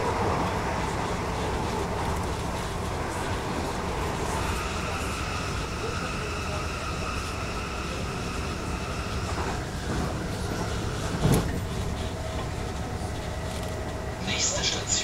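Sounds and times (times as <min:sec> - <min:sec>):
train inverter and motor whine: 0:00.0 - 0:15.0
wheel-on-rail rumble: 0:00.0 - 0:15.0.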